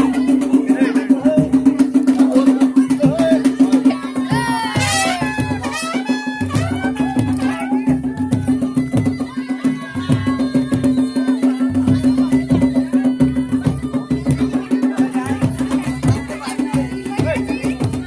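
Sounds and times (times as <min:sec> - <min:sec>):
steady drum beat: 0:00.0 - 0:18.0.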